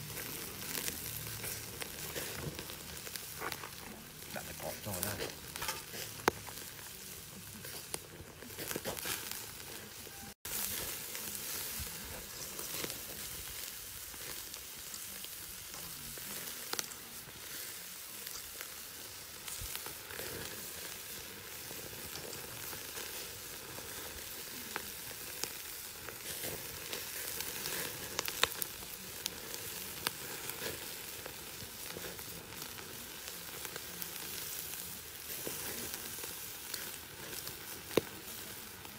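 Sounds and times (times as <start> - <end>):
fire popping and crackling: 0.0 - 38.9
meat sizzling on a grill: 0.0 - 38.9.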